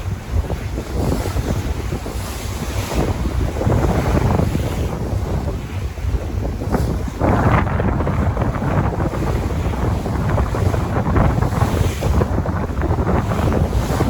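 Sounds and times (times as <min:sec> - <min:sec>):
sea waves washing: 0:00.0 - 0:14.0
wind buffeting the microphone: 0:00.0 - 0:14.0.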